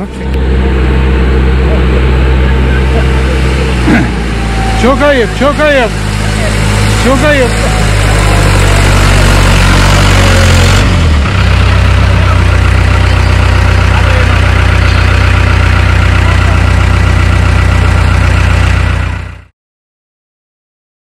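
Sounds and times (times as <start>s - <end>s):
tractor diesel engine running: 0.0s - 19.5s.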